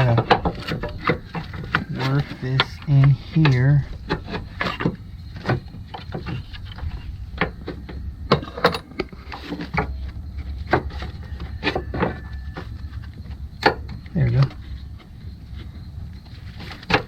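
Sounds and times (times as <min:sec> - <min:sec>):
metal clicks and knocks: 0:00.0 - 0:15.1.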